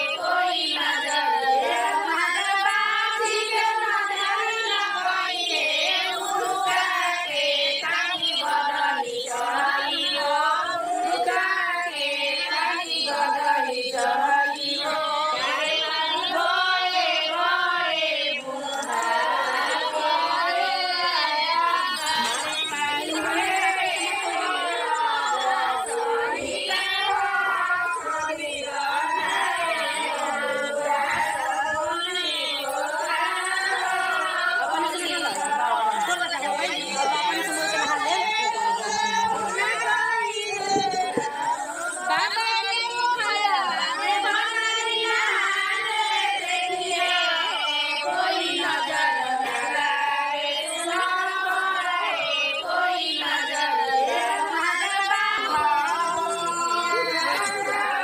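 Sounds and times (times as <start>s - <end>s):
high voices singing chant-like song: 0.0s - 58.0s.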